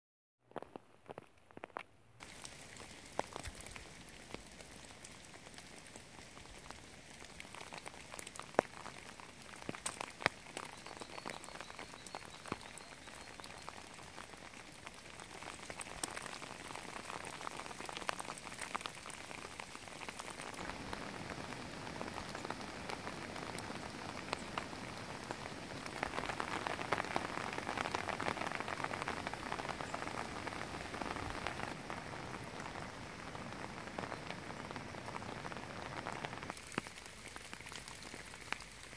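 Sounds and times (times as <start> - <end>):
rain falling on leaves: 0.6 - 38.9.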